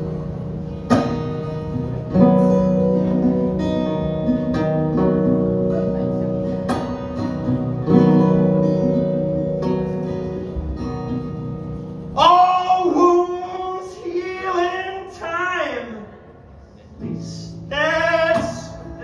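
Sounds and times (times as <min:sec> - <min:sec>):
guitar strumming chords: 0:00.0 - 0:15.2, 0:17.0 - 0:19.0.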